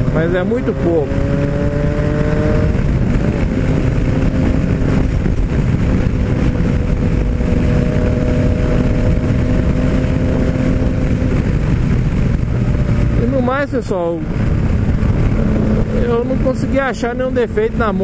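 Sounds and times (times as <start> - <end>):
heavy wind rush: 0.0 - 18.0
motorcycle engine cruising: 0.0 - 18.0.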